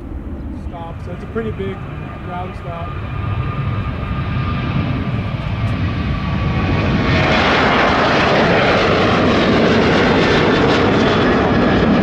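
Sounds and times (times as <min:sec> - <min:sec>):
jet airliner engines rushing: 0:00.0 - 0:12.0.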